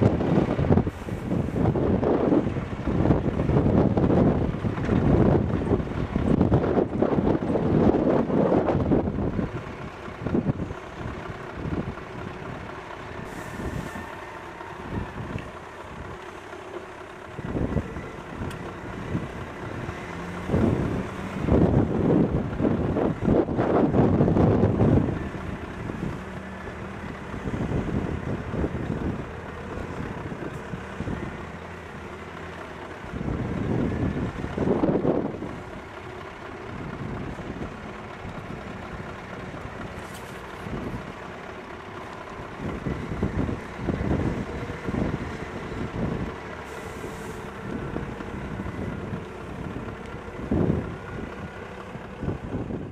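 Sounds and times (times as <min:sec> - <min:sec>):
wind buffeting microphone: 0:00.0 - 0:14.1, 0:17.3 - 0:32.3, 0:32.9 - 0:40.0, 0:40.6 - 0:41.3, 0:42.3 - 0:52.9
heavy diesel engines running: 0:00.0 - 0:52.9.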